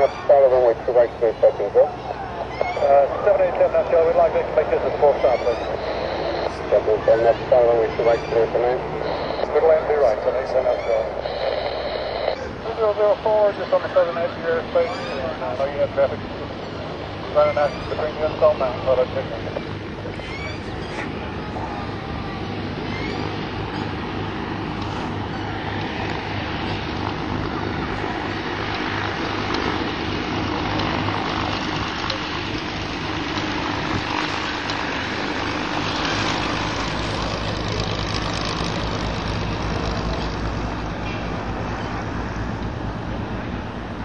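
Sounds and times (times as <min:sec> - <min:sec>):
low hum: 0:00.0 - 0:44.0
propeller drone: 0:00.0 - 0:44.0.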